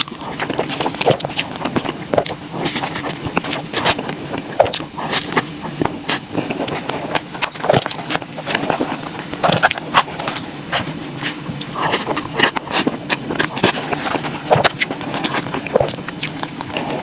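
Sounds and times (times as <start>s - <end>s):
chewing and wet mouth smacks: 0.0s - 17.0s.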